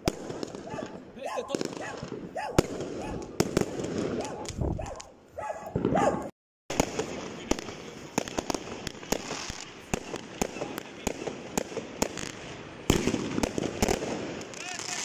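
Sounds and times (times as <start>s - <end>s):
firecrackers crackling: 0.0s - 15.0s
fireworks bangs: 0.0s - 15.0s.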